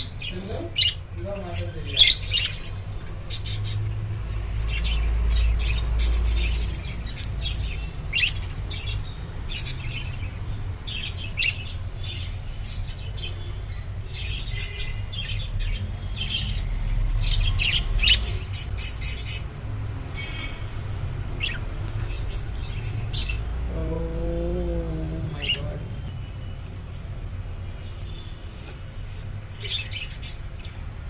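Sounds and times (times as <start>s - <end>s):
budgerigars chirping and chattering: 0.0s - 23.6s, 25.3s - 30.8s.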